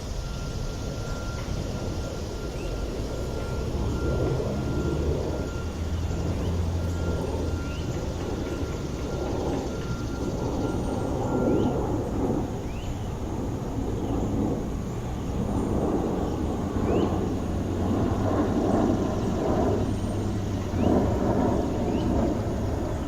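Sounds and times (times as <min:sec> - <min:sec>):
faint rising chirps: 0:00.0 - 0:23.0
low rumble of traffic: 0:00.0 - 0:23.0
noisy wash: 0:00.0 - 0:23.0
wind: 0:00.0 - 0:23.0.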